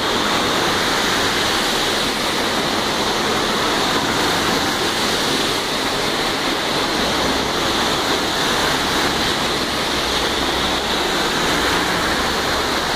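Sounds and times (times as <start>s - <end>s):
car driving through water: 0.0s - 12.9s
heavy rain: 0.0s - 12.9s
running floodwater: 0.0s - 12.9s.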